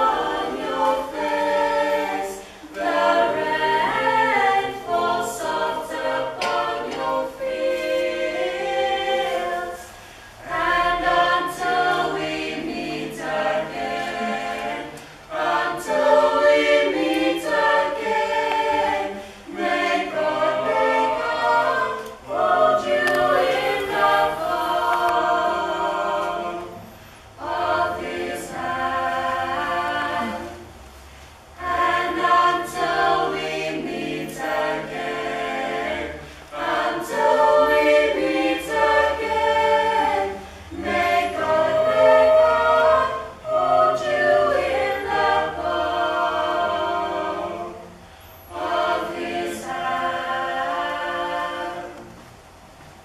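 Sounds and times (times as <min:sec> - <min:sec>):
group singing a cappella: 0:00.0 - 0:52.9.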